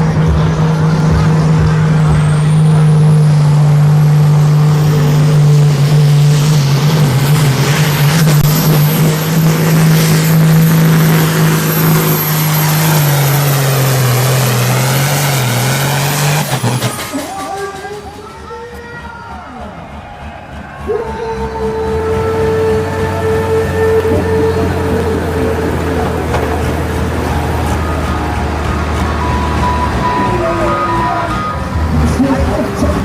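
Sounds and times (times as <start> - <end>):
diesel engine running hard: 0.0 - 33.0
high whine: 0.0 - 33.0.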